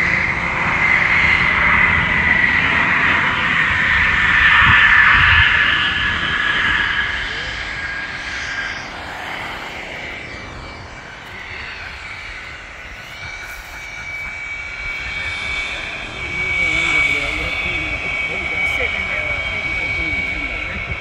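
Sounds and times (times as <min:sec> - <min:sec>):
aircraft flying past: 0:00.0 - 0:21.0
high engine tone: 0:00.0 - 0:21.0.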